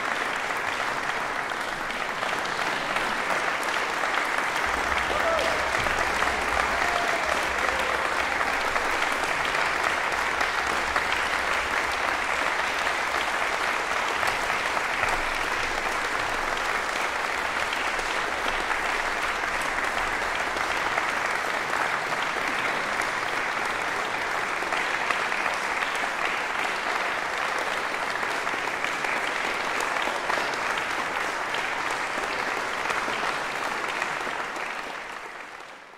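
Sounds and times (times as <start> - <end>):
audience applause: 0.0 - 35.9.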